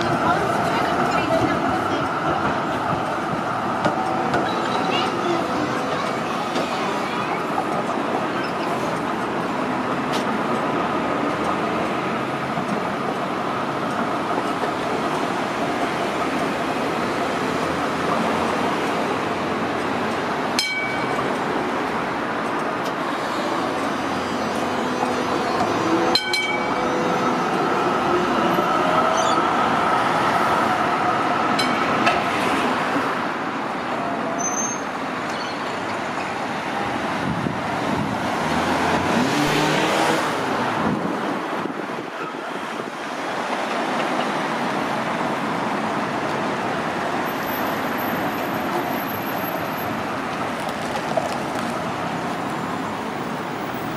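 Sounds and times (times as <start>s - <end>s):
cars passing: 0.0s - 53.9s
tram whine: 0.0s - 53.9s.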